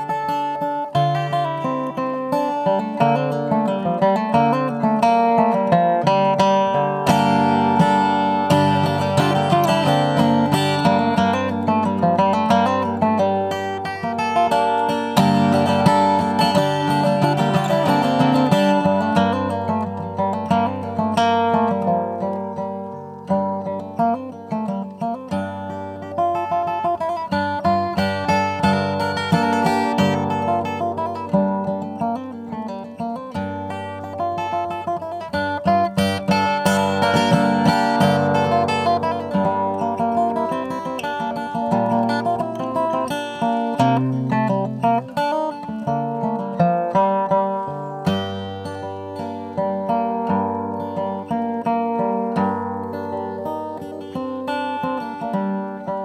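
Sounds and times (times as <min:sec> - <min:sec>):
acoustic guitar: 0:00.0 - 0:56.0.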